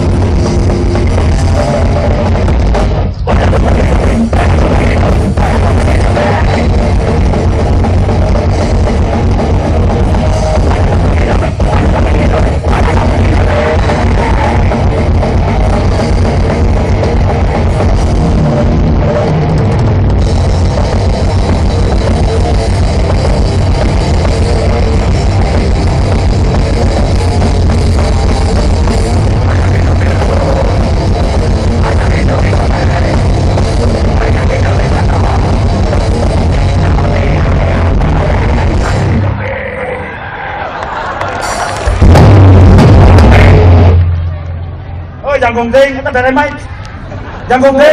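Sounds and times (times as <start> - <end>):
grindcore band playing live: 0.0 - 47.9.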